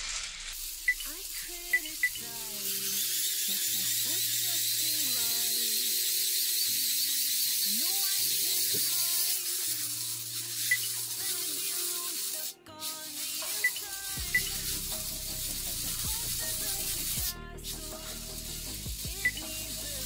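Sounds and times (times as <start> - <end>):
hand-crank charger whirring: 0.0 - 20.0
quiet background music: 0.9 - 20.0.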